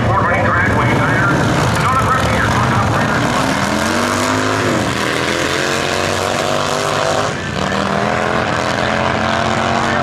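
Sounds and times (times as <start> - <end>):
motorcycle engines at full throttle: 0.0 - 10.0.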